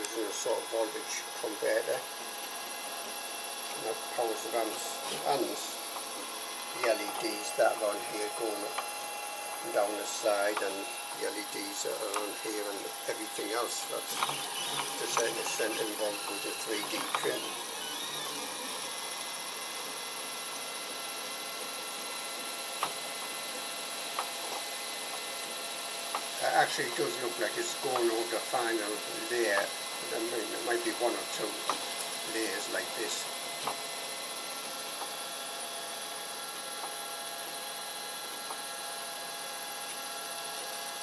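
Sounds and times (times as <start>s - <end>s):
printer fans whirring and humming: 0.0s - 41.0s.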